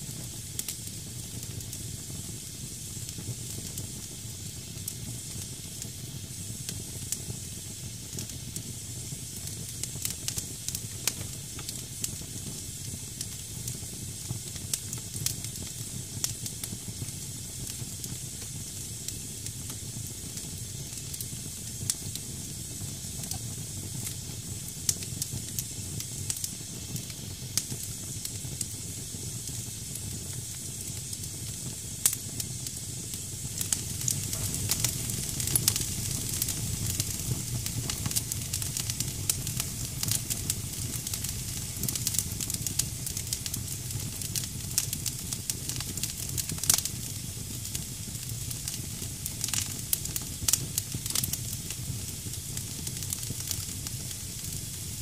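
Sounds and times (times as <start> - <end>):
fire crackling and popping: 0.0 - 55.0
wet wood hissing in fire: 0.0 - 55.0.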